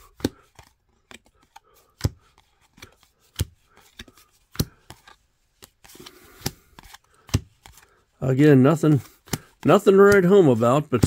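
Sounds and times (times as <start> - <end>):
card rustling: 0.0 - 11.0
cards slapping onto a pile: 0.1 - 7.8, 8.9 - 11.0.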